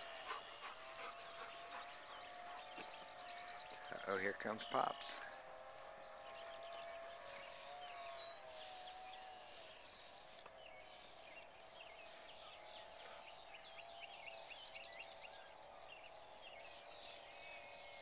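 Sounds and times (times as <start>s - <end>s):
birds chirping: 0.0s - 18.0s
low distant drone: 0.0s - 18.0s.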